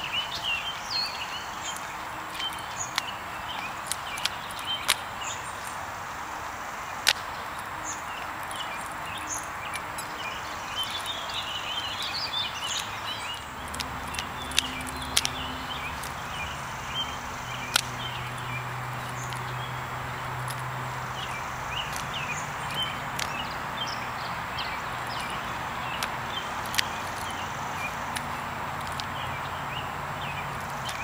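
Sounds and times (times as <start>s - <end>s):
birds chirping: 0.0s - 31.0s
outdoor background noise: 0.0s - 31.0s.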